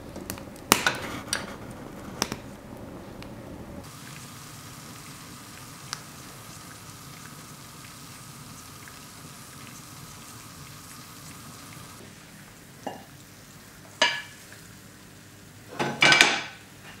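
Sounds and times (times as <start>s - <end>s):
eggs sizzling in a frying pan: 0.0s - 17.0s.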